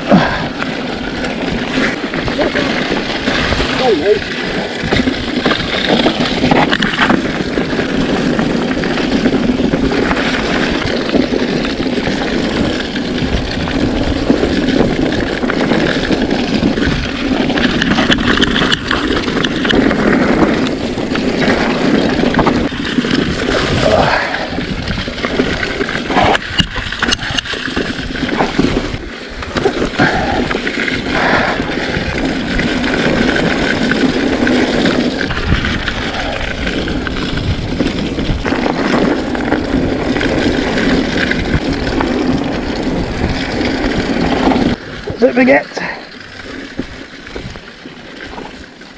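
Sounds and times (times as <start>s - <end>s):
tyre and trail rumble: 0.0s - 48.9s
wind buffeting microphone: 0.0s - 48.9s.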